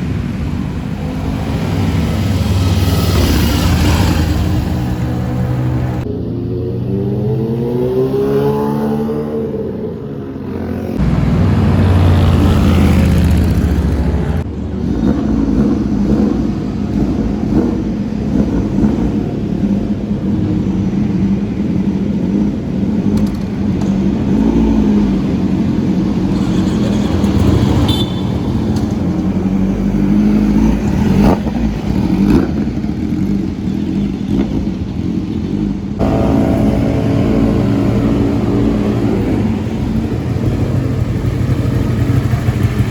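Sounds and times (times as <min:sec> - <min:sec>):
engines running and revving: 0:00.0 - 0:42.9.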